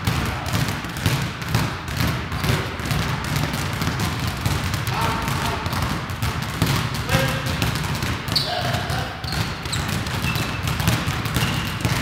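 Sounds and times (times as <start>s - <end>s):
basketballs bouncing on gym floor: 0.0s - 12.0s.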